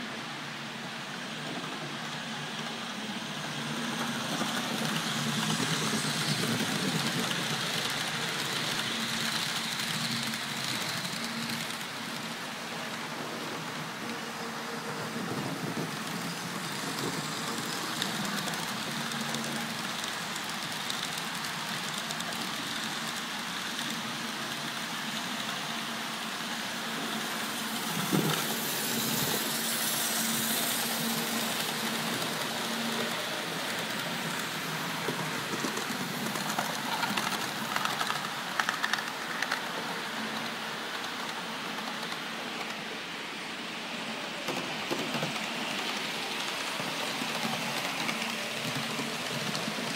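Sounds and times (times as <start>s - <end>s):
wheels hissing on rail: 0.0s - 49.9s.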